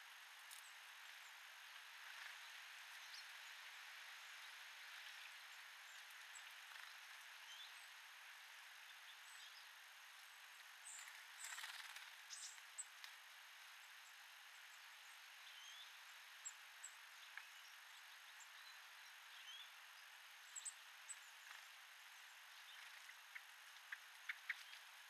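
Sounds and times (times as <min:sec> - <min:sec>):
rustle: 0:00.0 - 0:25.0
small birds chirping: 0:00.4 - 0:08.0, 0:08.6 - 0:25.0.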